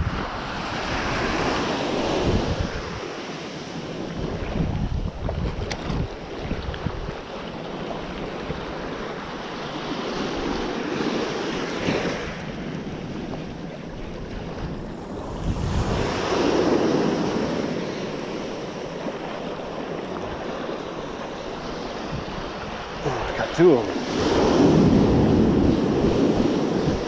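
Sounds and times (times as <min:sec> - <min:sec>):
ocean surf washing in: 0:00.0 - 0:05.3, 0:06.0 - 0:27.0
wind buffeting microphone: 0:00.0 - 0:27.0.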